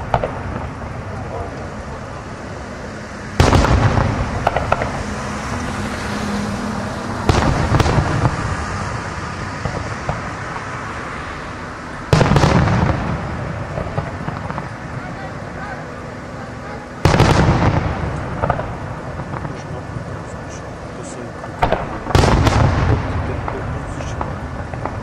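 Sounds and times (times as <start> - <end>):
sharp firework cracks: 0.0 - 1.8, 3.3 - 6.5, 7.2 - 15.7, 17.0 - 25.0
firework shells booming: 0.0 - 25.0.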